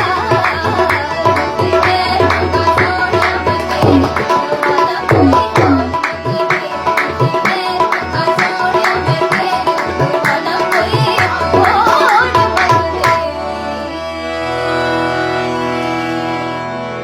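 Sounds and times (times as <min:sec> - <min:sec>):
tabla playing: 0:00.0 - 0:13.6.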